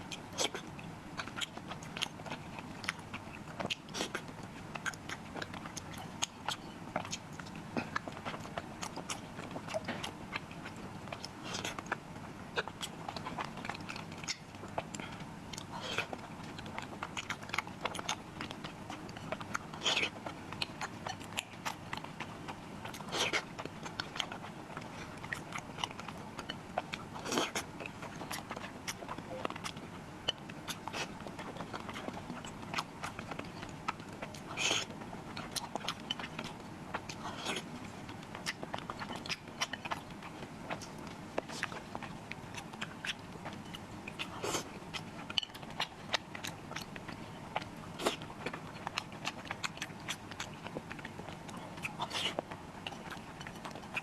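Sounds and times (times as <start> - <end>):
close chewing and biting: 0.0 - 54.0.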